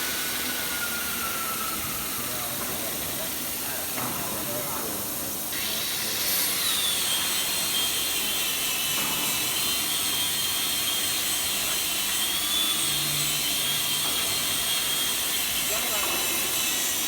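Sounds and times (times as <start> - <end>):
machine spindle whine: 0.0 - 3.9, 5.6 - 17.0.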